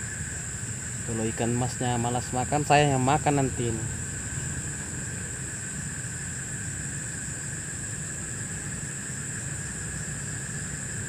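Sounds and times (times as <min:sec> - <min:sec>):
high-pitched night insect: 0:00.0 - 0:11.0
low steady rumble: 0:00.0 - 0:11.0
lower night insect: 0:00.0 - 0:11.0.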